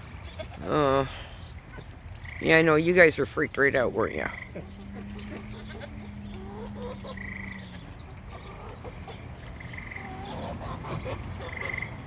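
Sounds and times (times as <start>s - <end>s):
chickens clucking: 0.2s - 2.7s, 4.1s - 12.0s.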